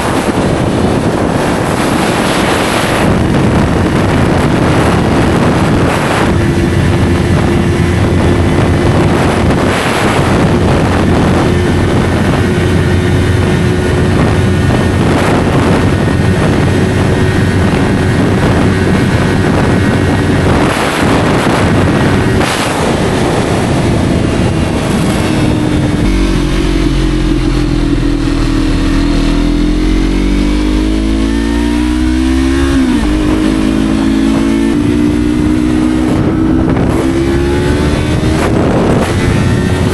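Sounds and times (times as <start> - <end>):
motorcycle engine at speed: 0.0 - 39.9
wind rushing: 0.0 - 39.9.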